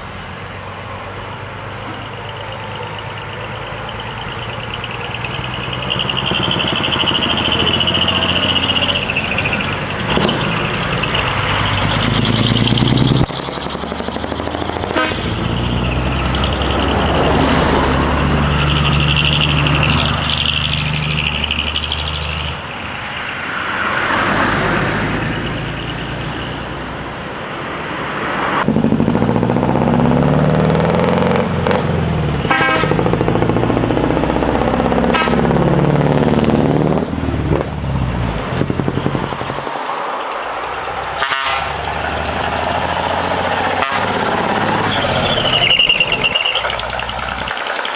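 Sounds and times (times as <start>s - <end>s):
diesel truck engines revving: 0.0s - 47.9s.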